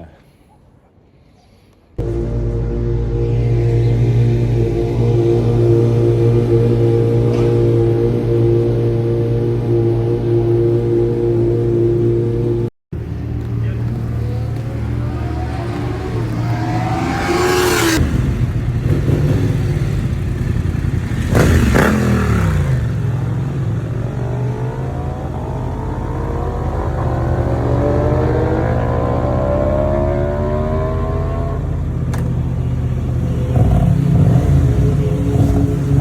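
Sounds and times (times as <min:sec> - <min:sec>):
race cars sweeping past: 0:02.0 - 0:19.1, 0:21.7 - 0:36.0
engine accelerating: 0:02.0 - 0:36.0
low engine hum: 0:02.0 - 0:36.0.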